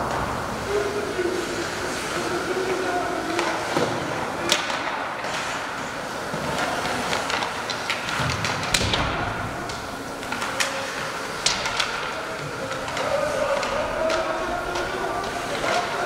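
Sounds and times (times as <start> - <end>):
arena background noise: 0.0 - 16.0
hockey sticks and puck clacking: 0.0 - 16.0.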